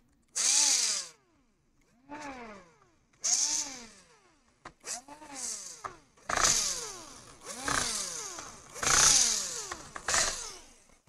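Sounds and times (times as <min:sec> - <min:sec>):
cordless drill bursts: 0:00.4 - 0:11.0.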